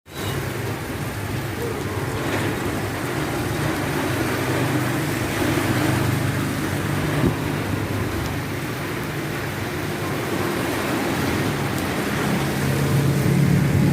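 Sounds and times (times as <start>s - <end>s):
heavy rain falling: 0.1s - 13.9s.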